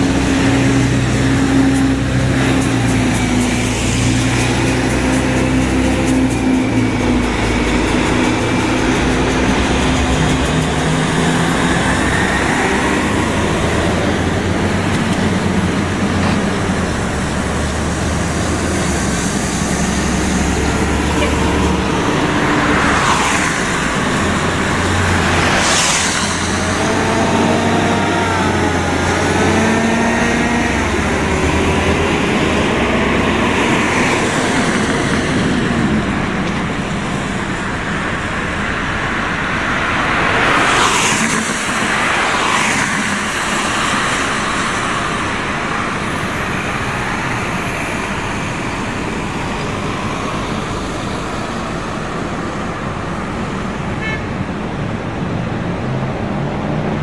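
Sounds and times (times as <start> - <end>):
buses driving past: 0.0 - 57.0
tyre and road noise: 0.0 - 57.0.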